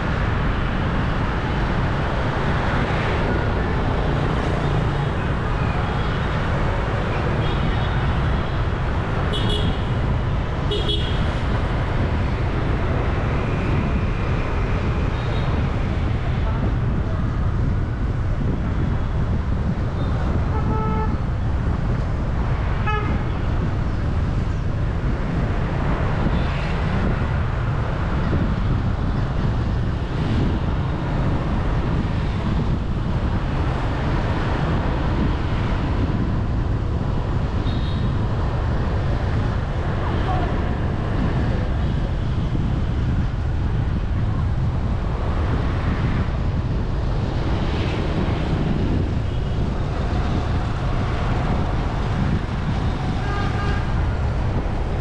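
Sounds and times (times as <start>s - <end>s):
traffic rumble and road noise: 0.0s - 55.0s.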